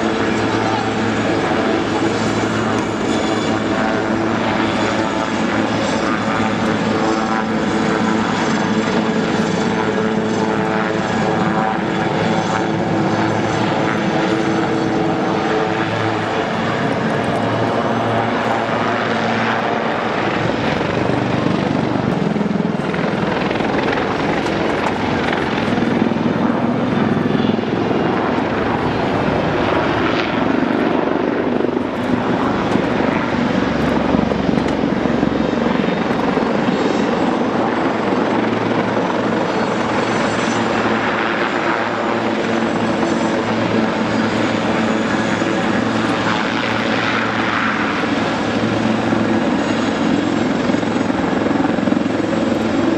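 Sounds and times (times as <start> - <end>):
helicopter rotor and turbine noise: 0.0 - 52.9.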